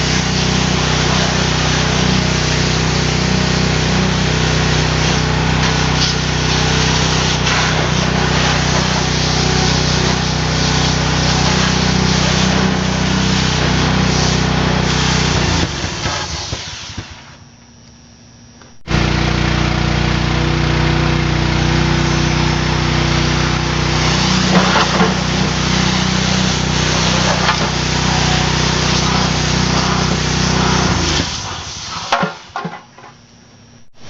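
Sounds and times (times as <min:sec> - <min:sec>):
small gasoline engine running: 0:00.0 - 0:17.3, 0:18.9 - 0:31.4.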